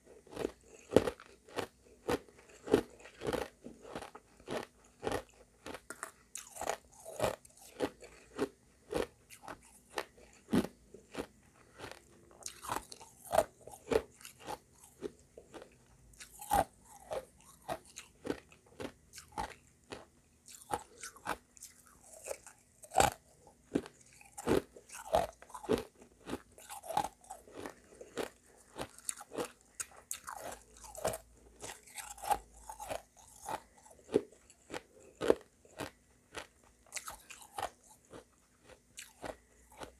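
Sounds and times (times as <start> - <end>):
chewing: 0.3 - 39.9.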